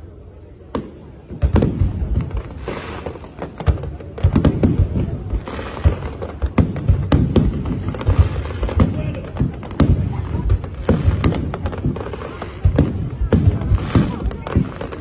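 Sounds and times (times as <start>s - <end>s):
fireworks crackle: 0.0s - 15.0s.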